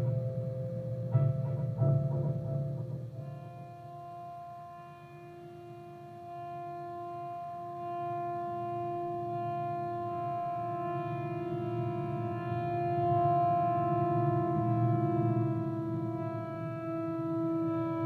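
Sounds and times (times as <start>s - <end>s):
electric guitar drone: 0.0s - 18.0s.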